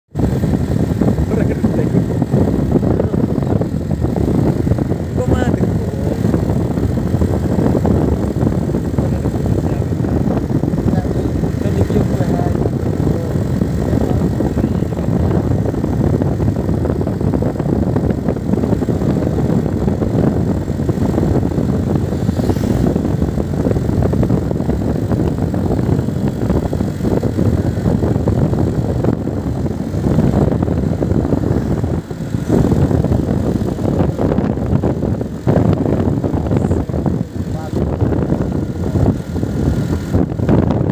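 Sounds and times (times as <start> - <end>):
vehicle engine rumble: 0.1 - 40.9
wind noise on microphone: 0.1 - 40.9.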